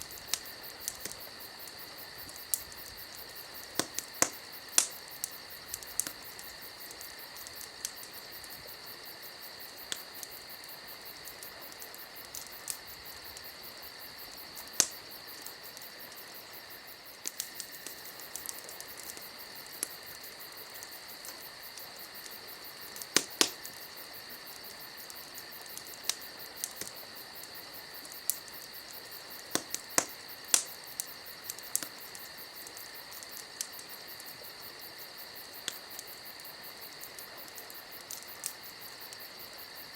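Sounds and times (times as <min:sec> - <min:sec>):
campfire crackling and popping: 0:00.0 - 0:39.9
insects chirring: 0:00.0 - 0:39.9.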